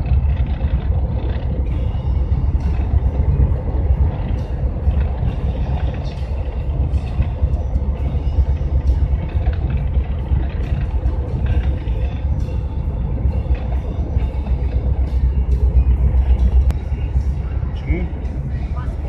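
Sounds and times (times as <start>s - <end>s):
van engine rumble: 0.0s - 19.0s.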